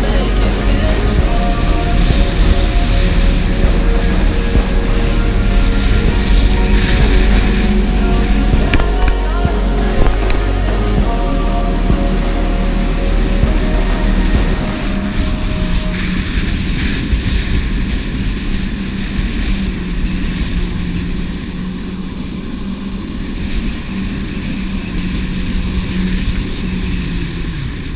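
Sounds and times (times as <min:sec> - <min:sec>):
jet ski engine droning: 0:00.0 - 0:27.9
water and spray rushing: 0:00.0 - 0:27.9
wind rumble on microphone: 0:00.0 - 0:27.9.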